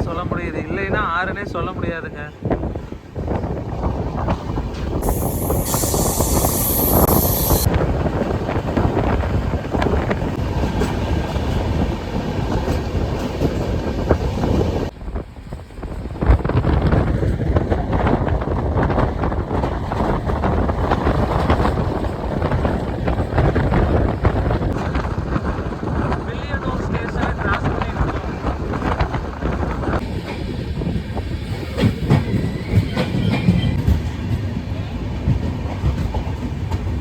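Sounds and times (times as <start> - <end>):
train rumbling at speed: 0.0 - 37.0
wind buffeting microphone: 0.2 - 37.0.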